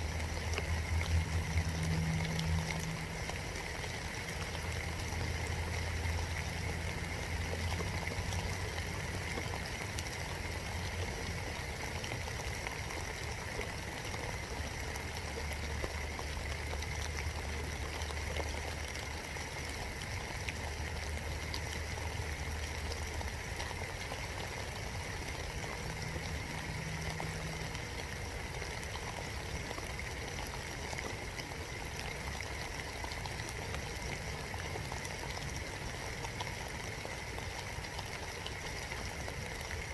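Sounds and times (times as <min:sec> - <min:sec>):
faint low hum: 0:00.0 - 0:39.9
raindrops ticking close by: 0:00.0 - 0:39.9
steady rain hiss: 0:00.0 - 0:39.9.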